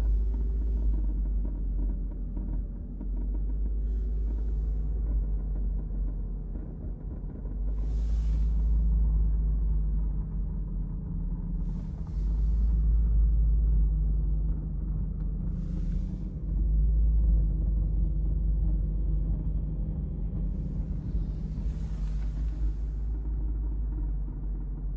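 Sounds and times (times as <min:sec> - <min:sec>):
low rumble in car cabin: 0:00.0 - 0:24.9
steady hum: 0:00.0 - 0:24.9.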